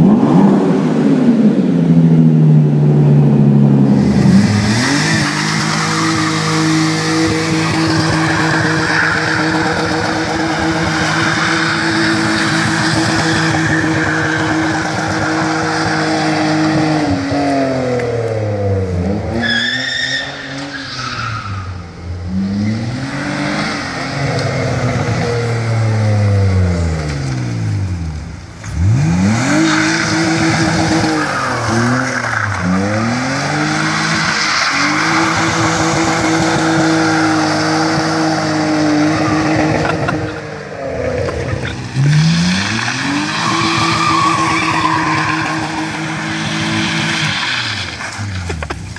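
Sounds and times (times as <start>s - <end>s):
tyres skidding on pavement: 3.4s - 48.9s
car engine revving hard: 3.8s - 19.5s, 22.3s - 28.0s, 28.6s - 48.0s.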